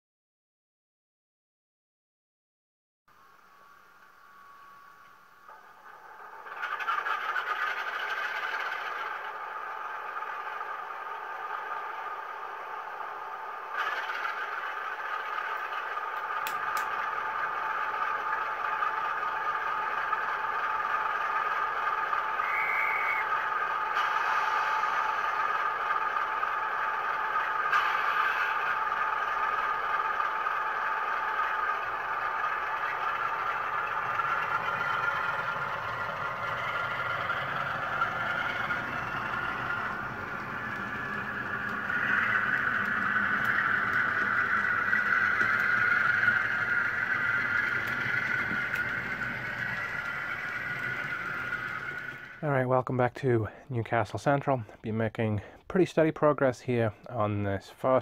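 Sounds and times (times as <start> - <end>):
model train motor whir: 3.5 - 52.4
wheels clattering on rails: 5.6 - 52.4.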